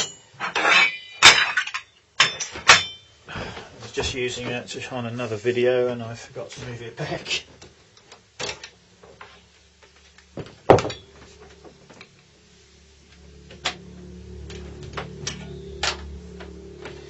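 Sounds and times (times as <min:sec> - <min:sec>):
electric hum: 0:01.5 - 0:17.0.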